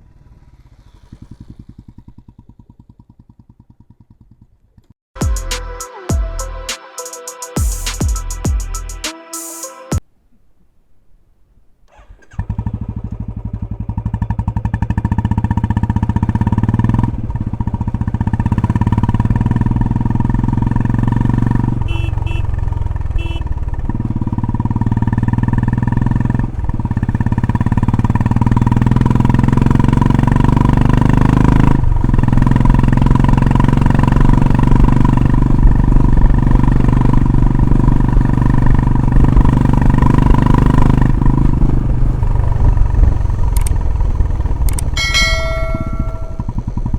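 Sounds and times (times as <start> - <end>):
motorcycle engine exhaust: 0.0 - 4.8, 12.4 - 46.9.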